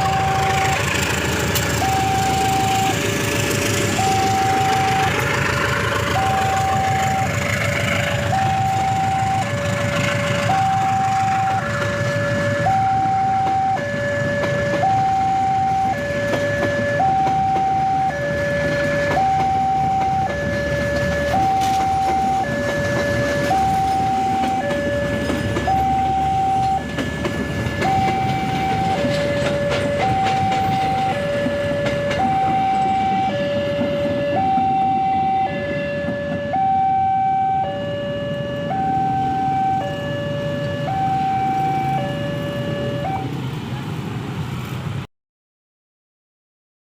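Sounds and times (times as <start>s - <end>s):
two-tone crossing alarm: 0.0s - 43.4s.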